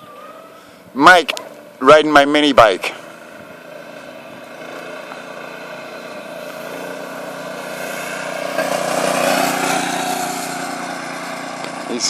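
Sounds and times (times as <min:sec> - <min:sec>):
minibike engine running: 0:01.6 - 0:12.0.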